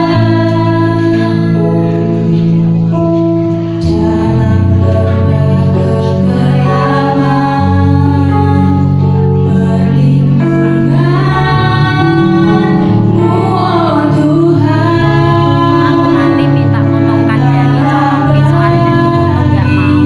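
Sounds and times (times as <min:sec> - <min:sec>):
girls singing over loudspeaker: 0:00.0 - 0:03.2, 0:03.8 - 0:20.0
instrumental accompaniment: 0:00.0 - 0:20.0.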